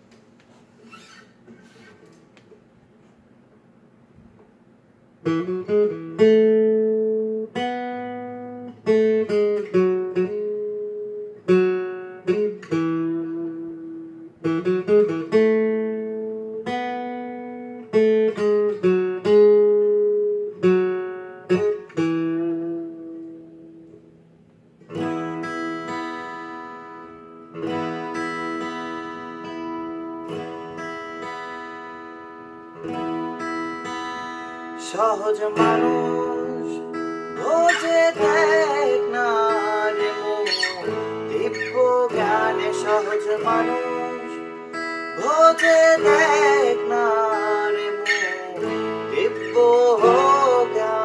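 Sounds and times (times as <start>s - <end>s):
fingerpicked acoustic guitar: 0.0s - 51.0s.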